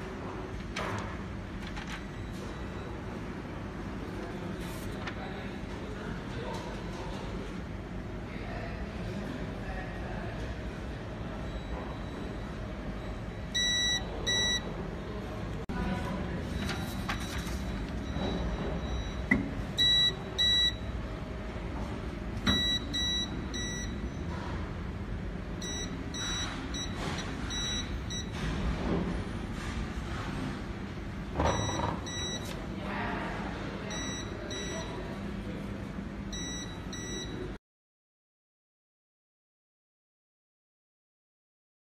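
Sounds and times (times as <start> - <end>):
low machine hum: 0.0 - 37.6.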